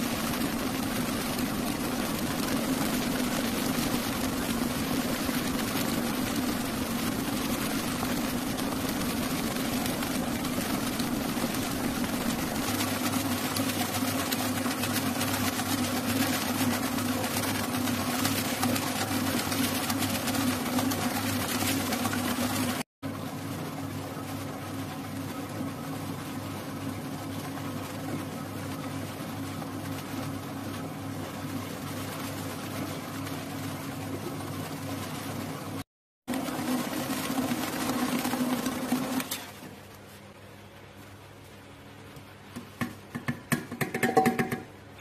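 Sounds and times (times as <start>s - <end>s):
stand mixer motor humming: 0.0s - 39.4s.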